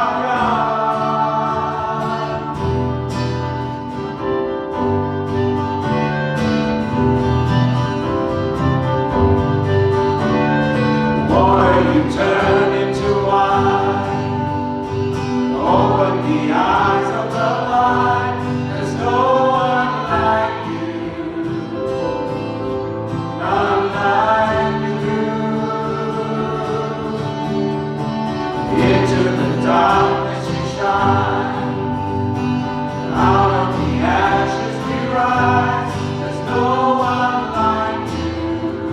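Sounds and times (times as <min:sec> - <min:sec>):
voices singing together: 0:00.0 - 0:04.2, 0:10.2 - 0:38.9
instrumental backing: 0:00.0 - 0:38.9.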